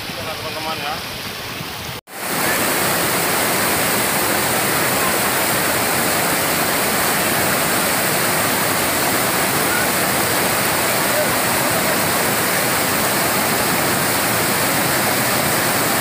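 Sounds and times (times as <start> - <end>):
waterfall rushing over rock ledges: 0.0 - 16.0.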